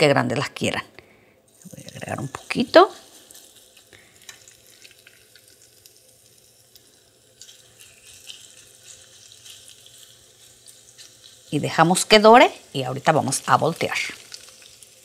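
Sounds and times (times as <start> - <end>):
food sizzling in oil: 1.5 - 15.0.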